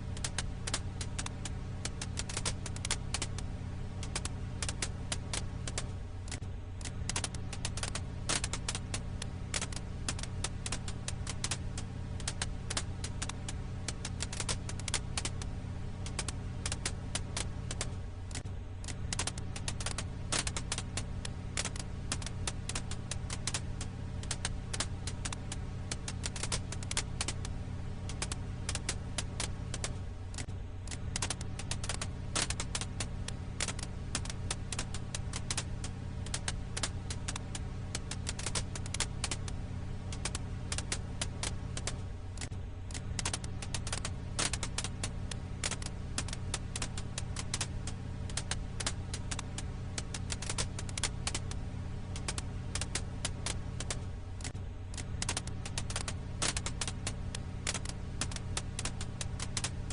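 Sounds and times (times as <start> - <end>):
firewood crackling: 0.0 - 59.9
steady low hum: 0.0 - 59.9.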